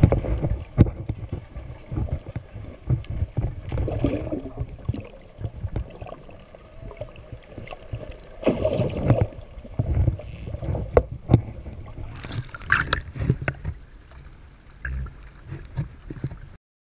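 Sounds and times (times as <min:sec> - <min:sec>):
water sloshing and splashing: 0:00.0 - 0:16.6.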